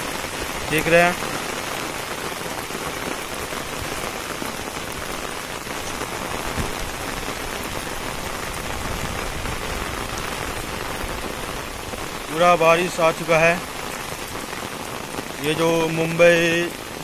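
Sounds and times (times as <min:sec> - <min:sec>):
heavy rain on concrete and plants: 0:00.0 - 0:17.0.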